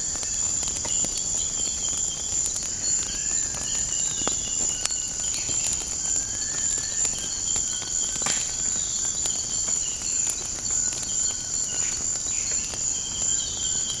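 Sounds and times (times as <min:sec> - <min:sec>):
crickets trilling: 0:00.0 - 0:14.0
wood fire crackling: 0:00.0 - 0:14.0.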